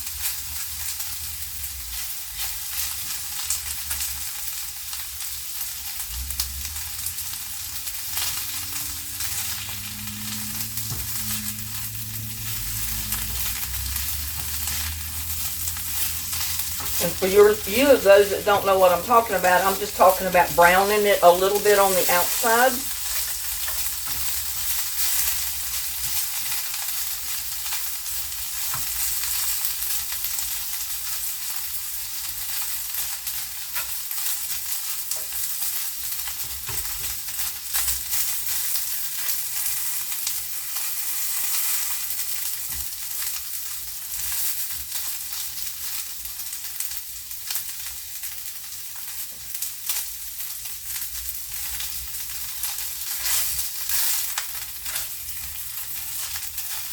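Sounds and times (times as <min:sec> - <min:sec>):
chicken sizzling in hot oil: 0:00.0 - 0:56.9.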